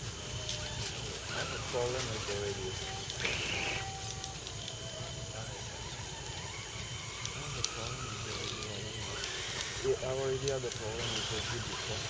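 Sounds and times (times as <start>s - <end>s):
electric motors whirring: 0.0s - 12.0s
leaves and twigs crackling: 0.0s - 12.0s.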